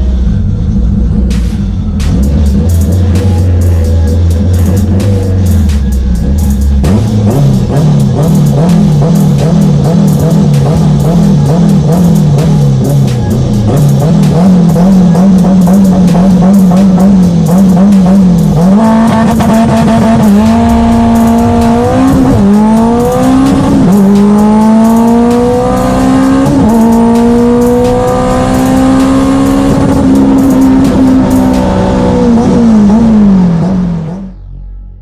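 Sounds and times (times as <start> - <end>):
car engine accelerating through gears: 0.0 - 34.5.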